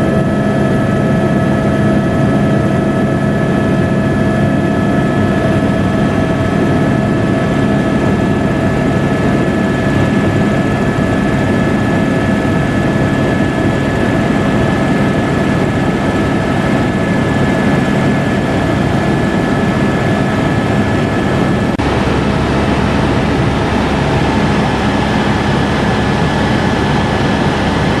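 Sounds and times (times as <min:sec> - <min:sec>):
helicopter running: 0:00.0 - 0:28.0.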